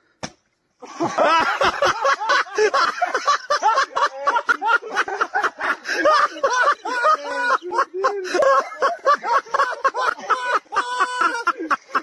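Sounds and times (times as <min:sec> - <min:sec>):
people laughing hard: 0:00.8 - 0:12.0.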